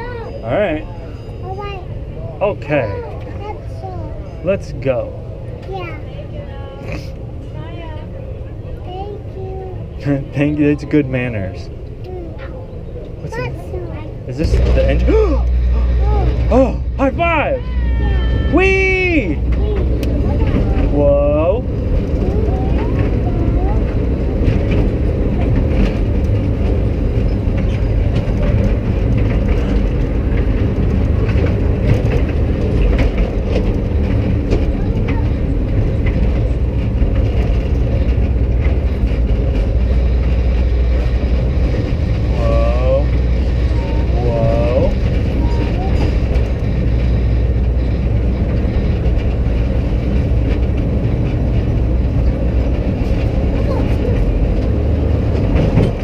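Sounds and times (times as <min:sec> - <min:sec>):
ride car rumbling on track: 0:00.0 - 0:56.0.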